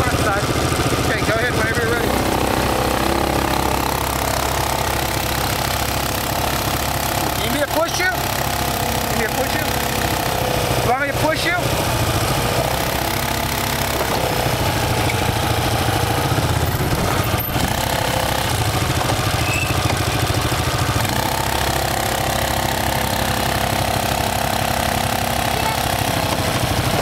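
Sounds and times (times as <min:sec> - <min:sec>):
quad bike crawling uphill: 0:00.0 - 0:27.0
quad bike idling: 0:00.0 - 0:27.0.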